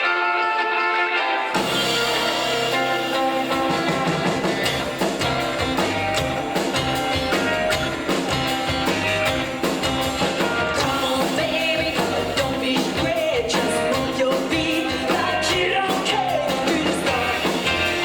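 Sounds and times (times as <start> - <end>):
drums: 0.0 - 18.0
electric guitar: 0.0 - 18.0
slap bass: 1.6 - 18.0.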